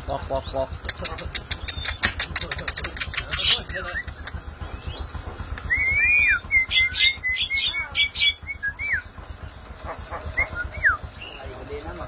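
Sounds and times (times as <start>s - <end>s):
bird whistling and chattering: 0.4s - 11.6s.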